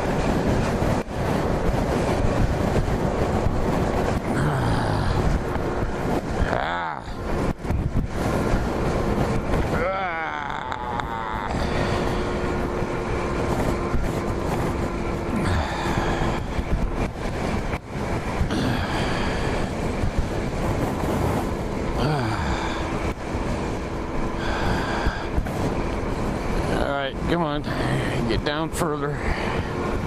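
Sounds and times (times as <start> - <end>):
motorcycle engine running: 0.0 - 30.0
steady hum: 0.0 - 30.0
wind buffeting microphone: 0.0 - 30.0.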